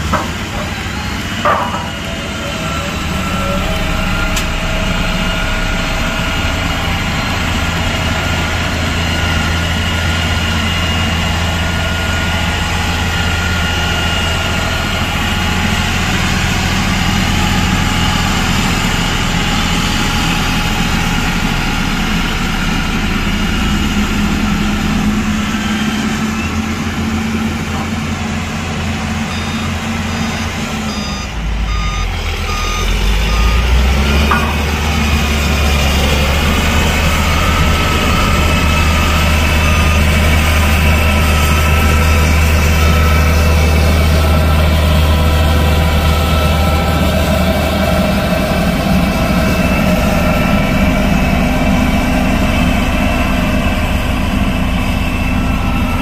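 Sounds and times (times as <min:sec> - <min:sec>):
reversing alarm beeping: 0:00.0 - 0:27.9, 0:28.5 - 0:56.0
heavy diesel machinery running: 0:00.0 - 0:56.0.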